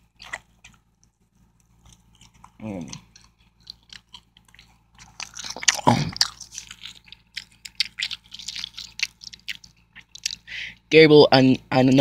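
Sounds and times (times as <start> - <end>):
mouth chewing: 0.0 - 10.5.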